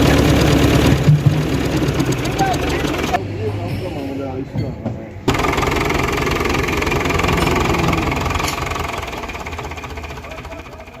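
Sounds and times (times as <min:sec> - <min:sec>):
tractor diesel engine running: 0:00.0 - 0:03.2, 0:05.3 - 0:11.0.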